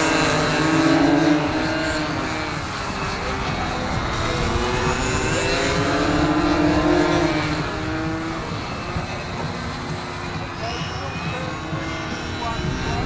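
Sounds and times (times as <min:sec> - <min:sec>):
model plane engines in flight: 0:00.0 - 0:13.0.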